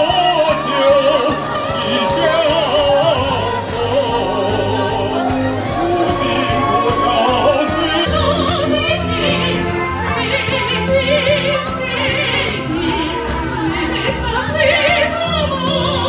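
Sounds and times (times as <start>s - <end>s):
person singing with vibrato: 0.0s - 16.0s
steady bass line: 0.0s - 16.0s.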